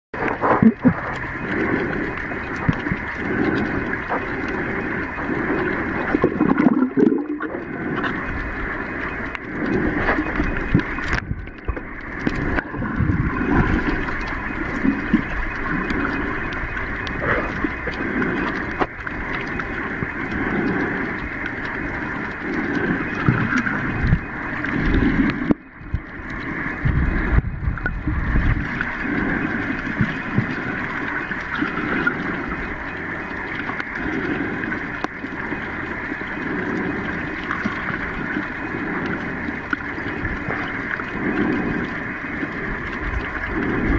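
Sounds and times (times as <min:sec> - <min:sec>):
muffled underwater water rush: 0:00.1 - 0:43.9.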